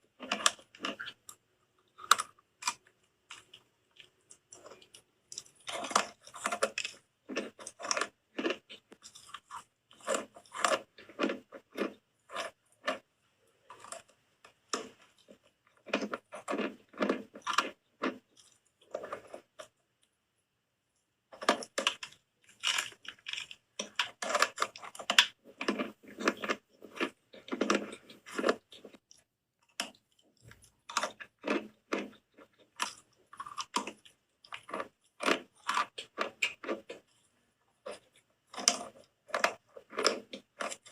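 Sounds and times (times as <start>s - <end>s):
crunchy chewing: 0.0s - 20.1s, 21.3s - 40.9s.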